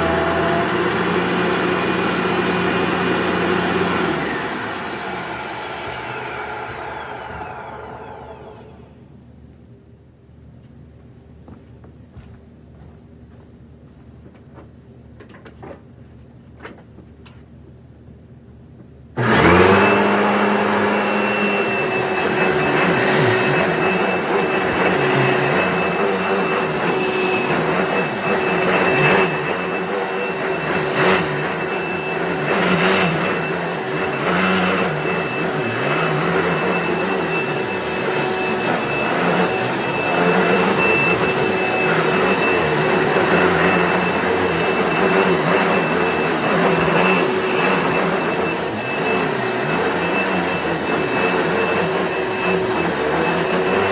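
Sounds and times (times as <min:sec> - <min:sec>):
vacuum cleaner running: 0:00.0 - 0:09.0, 0:19.2 - 0:53.9.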